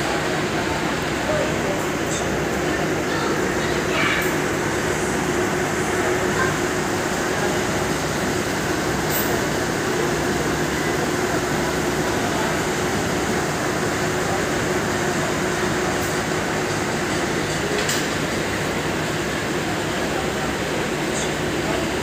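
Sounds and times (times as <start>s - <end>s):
diesel buses idling: 0.0s - 22.0s.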